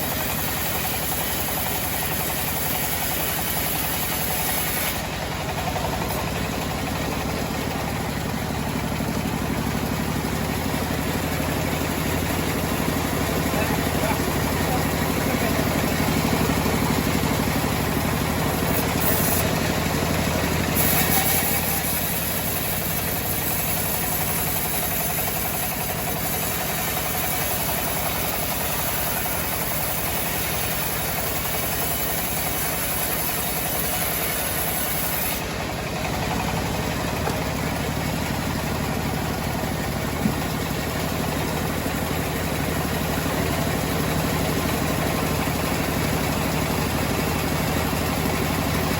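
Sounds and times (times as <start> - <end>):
sawmill engine running: 0.0 - 48.9.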